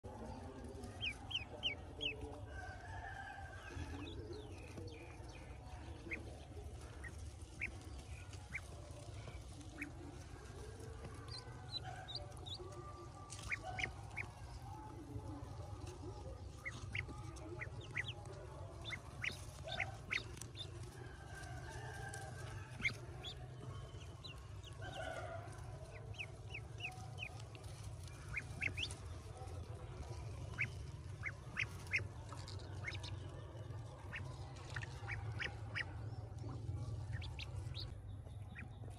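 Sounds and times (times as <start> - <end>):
ducklings peeping: 0.2 - 38.9.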